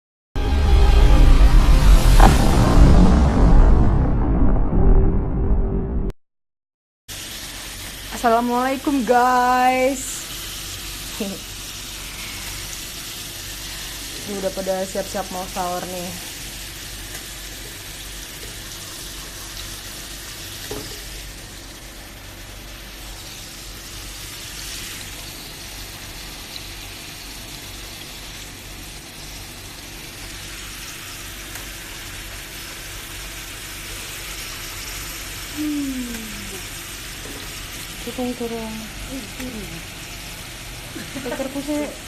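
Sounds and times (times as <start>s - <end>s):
food sizzling in a pan: 7.1s - 42.0s.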